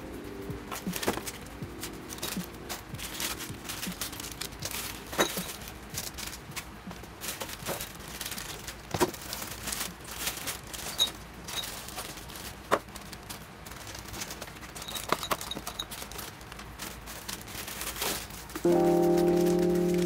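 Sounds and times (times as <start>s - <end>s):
plastic packaging crinkling: 0.8s - 20.0s.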